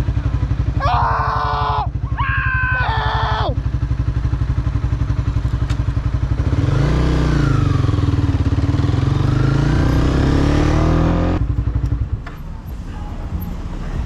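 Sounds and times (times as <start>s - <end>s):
motorcycle engine idling and pulling away: 0.0s - 14.0s.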